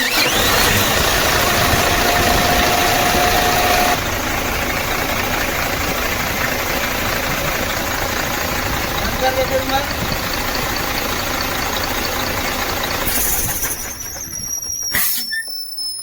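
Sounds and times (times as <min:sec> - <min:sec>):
diesel truck engine idling: 0:00.0 - 0:15.6
starter motor whine: 0:00.0 - 0:15.9.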